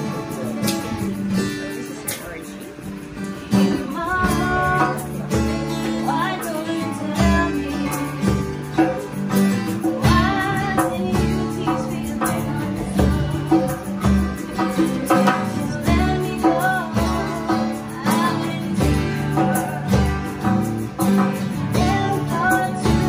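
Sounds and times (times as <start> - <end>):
acoustic guitars strumming: 0.0 - 23.0
hand drum tapping: 0.0 - 23.0
women singing: 3.7 - 9.0, 9.8 - 23.0.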